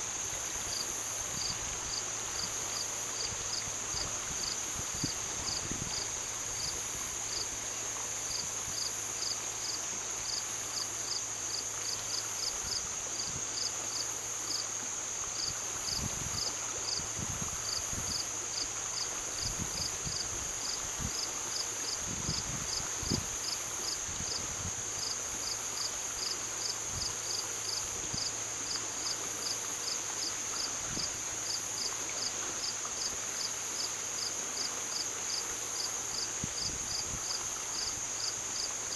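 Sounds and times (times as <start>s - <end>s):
crickets chirping: 0.0s - 38.9s
high insect drone: 0.0s - 38.9s.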